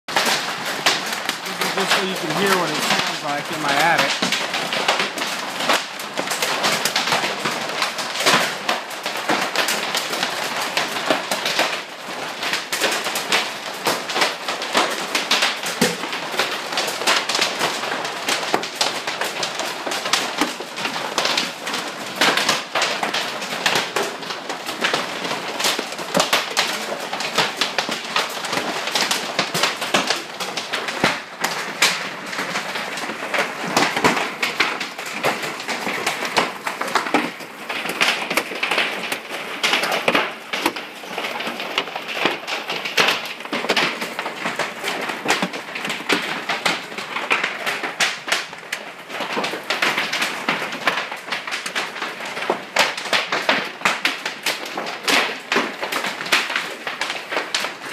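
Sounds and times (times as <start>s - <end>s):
hail clattering on roof: 0.1s - 57.9s.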